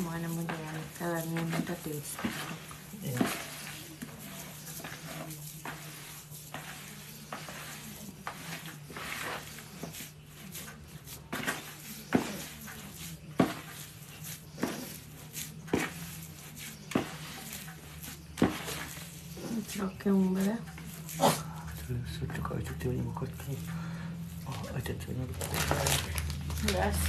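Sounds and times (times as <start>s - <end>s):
dough squishing in a bowl: 0.0s - 27.0s.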